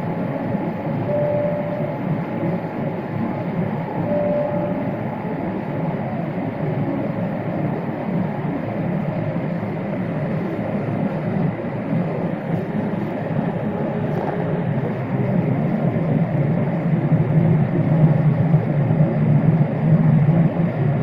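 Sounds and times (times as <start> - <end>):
jet engine roar: 0.0 - 21.0
low cabin drone: 0.0 - 21.0.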